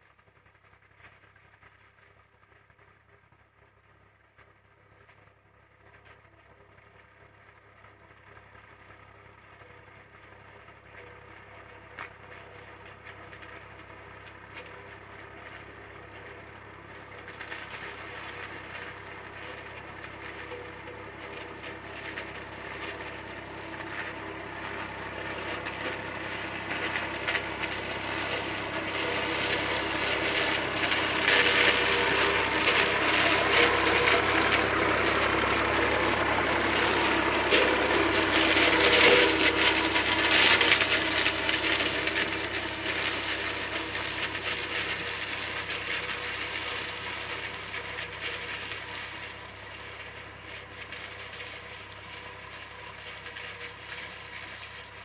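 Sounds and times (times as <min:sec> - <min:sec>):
tractor and harvester passing: 0:03.8 - 0:55.0.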